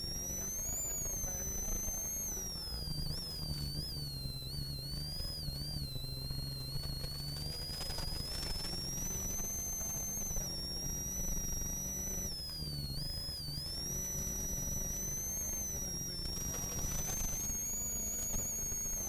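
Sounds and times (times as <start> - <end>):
car engine at speed: 0.0 - 19.0
high turbo whine: 0.0 - 19.0.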